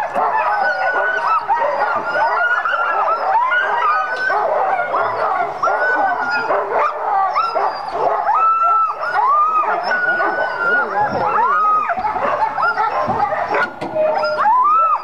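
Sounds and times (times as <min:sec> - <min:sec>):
sled dogs barking: 0:00.0 - 0:15.0.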